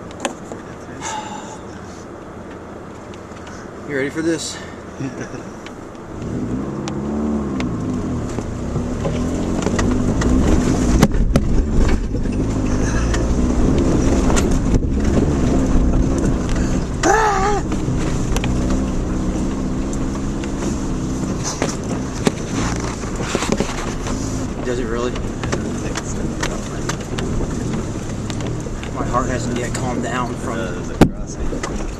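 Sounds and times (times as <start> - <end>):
car engine under load: 0.0 - 31.9.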